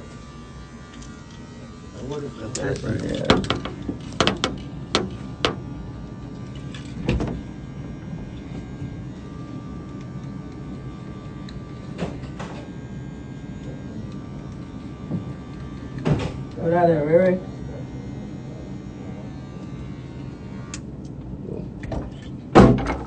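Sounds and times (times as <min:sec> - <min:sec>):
electric hair clippers buzzing: 0:00.0 - 0:21.4.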